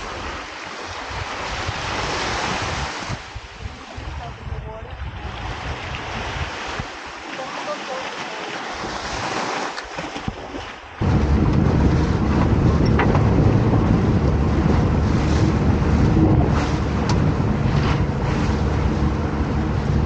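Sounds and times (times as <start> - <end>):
wind buffeting microphone: 0.0 - 7.2, 8.7 - 20.0
outboard motor drone: 0.0 - 20.0
small waves washing on beach: 0.0 - 20.0
water rushing past hull: 0.0 - 20.0.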